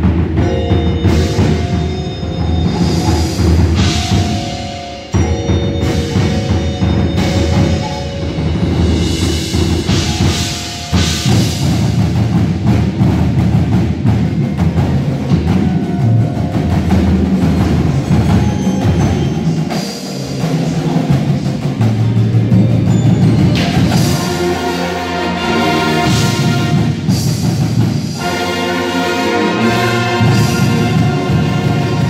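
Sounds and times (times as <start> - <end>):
bass drums: 0.0 - 24.7, 25.4 - 28.4
mallet keyboards: 0.0 - 32.0
marching band playing: 0.0 - 32.0
timpani: 0.0 - 32.0.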